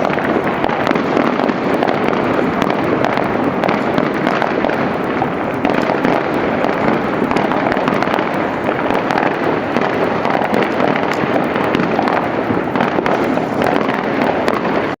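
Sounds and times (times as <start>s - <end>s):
distant fireworks crackle: 0.0s - 15.0s.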